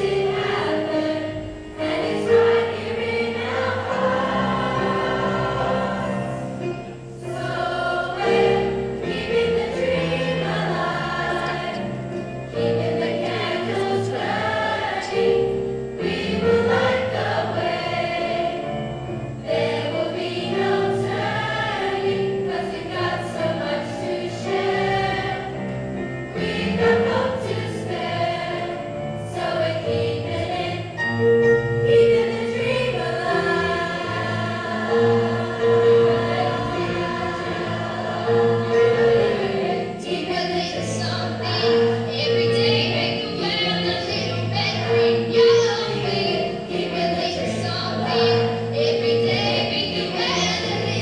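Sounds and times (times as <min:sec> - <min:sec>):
children's choir singing: 0:00.0 - 0:51.0.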